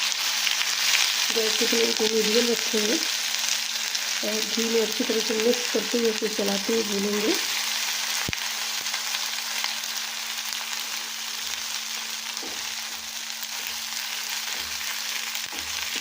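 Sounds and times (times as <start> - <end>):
ginger sizzling in a pan: 0.0 - 16.0.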